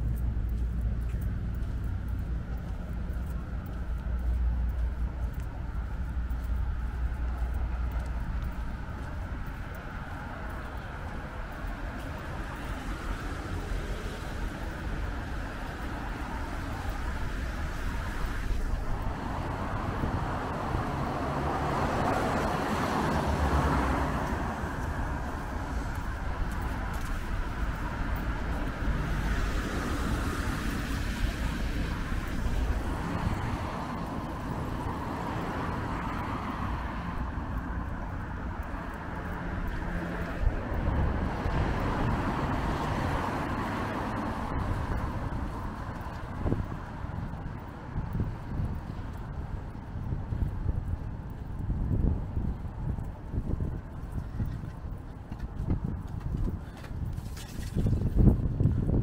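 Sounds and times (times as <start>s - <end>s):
cars passing on wet road: 0.0s - 59.0s.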